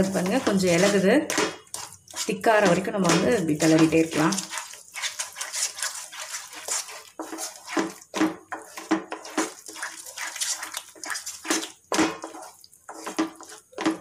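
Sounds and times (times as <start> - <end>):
spatula scraping thick mixture in pan: 0.0 - 14.0.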